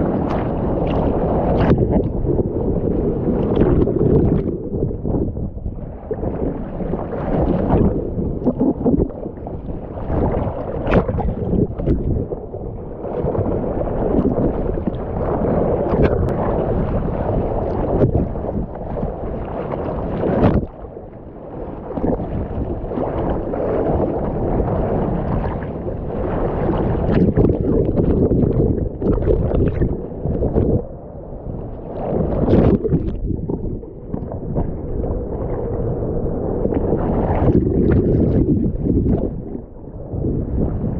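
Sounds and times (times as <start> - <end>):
muffled water splashing: 0.0 - 40.9.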